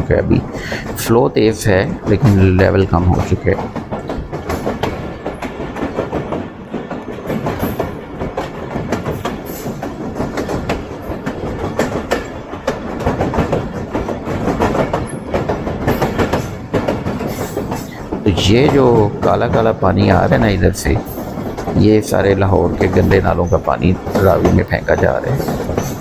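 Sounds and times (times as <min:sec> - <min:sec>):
train rumble: 0:00.0 - 0:26.0
wheels clattering over rails: 0:00.0 - 0:26.0.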